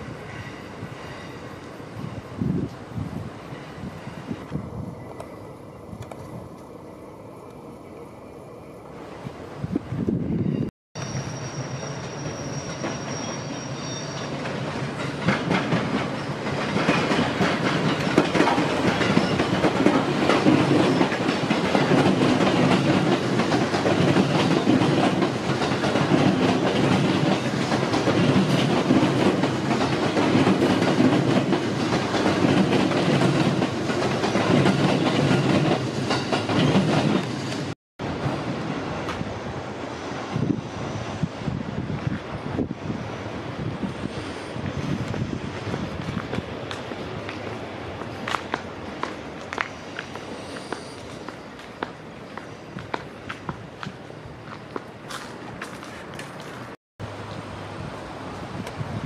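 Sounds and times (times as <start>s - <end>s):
electric train passing: 0.0s - 59.0s
train wheels on rails: 0.0s - 59.0s.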